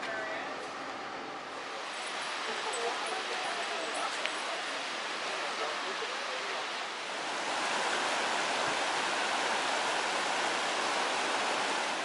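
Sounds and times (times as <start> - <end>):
water tumbling over boulders: 1.8 - 12.0.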